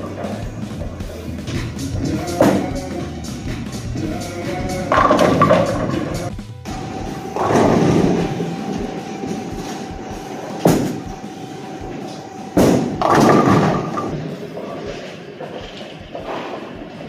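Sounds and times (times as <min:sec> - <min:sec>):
bowling ball rolling: 0:00.0 - 0:17.0
pins crashing: 0:00.0 - 0:17.0.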